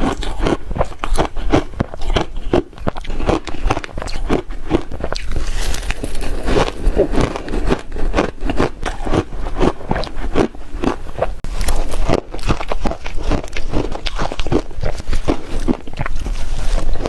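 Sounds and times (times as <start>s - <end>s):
person crunching ice: 0.0s - 17.0s.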